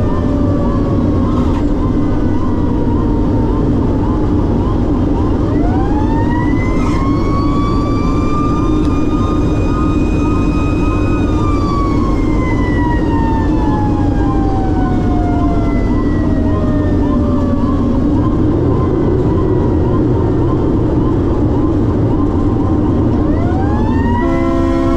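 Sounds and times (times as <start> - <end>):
fast repeating siren note: 0.0 - 24.9
fire engine siren winding: 0.0 - 24.9
truck engine drone: 0.0 - 24.9.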